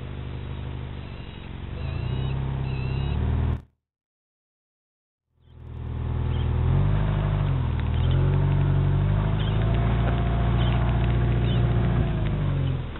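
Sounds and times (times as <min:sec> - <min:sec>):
car engine running: 0:00.0 - 0:03.8, 0:05.4 - 0:12.9.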